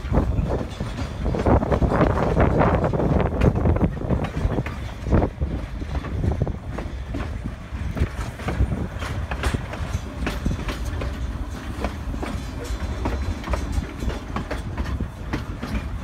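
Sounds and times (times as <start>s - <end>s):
train rumbling: 0.0s - 16.0s
wheels clicking over rail joints: 0.0s - 16.0s.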